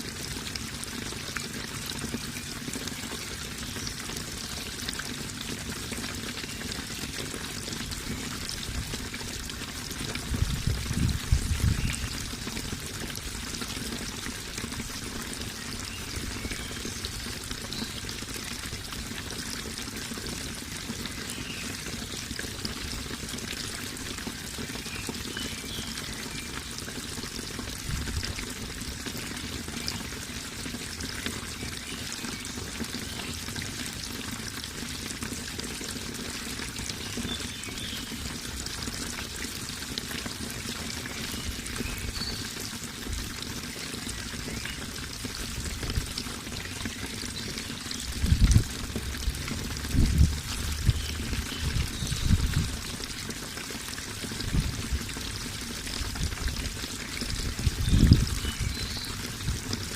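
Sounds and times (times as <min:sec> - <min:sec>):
water pouring and splashing: 0:00.0 - 0:59.9.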